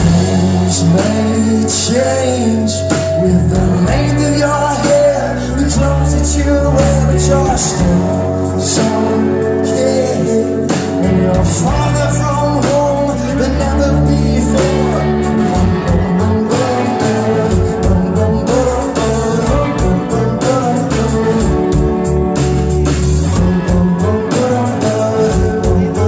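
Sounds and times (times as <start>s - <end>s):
bass guitar: 0.0s - 26.0s
drum kit: 0.0s - 26.0s
electric guitars: 0.0s - 26.0s
man singing: 0.0s - 26.0s.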